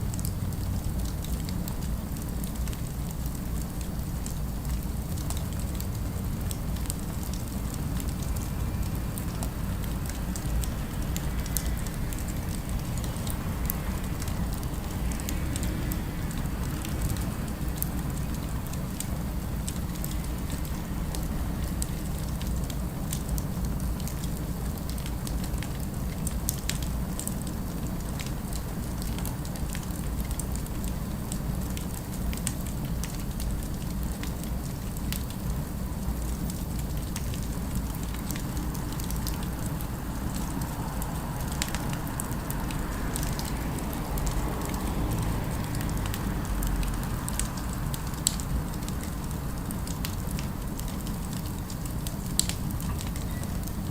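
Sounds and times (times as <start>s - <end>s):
low city ambience rumble: 0.0s - 53.9s
fire crackling and popping: 0.1s - 53.9s.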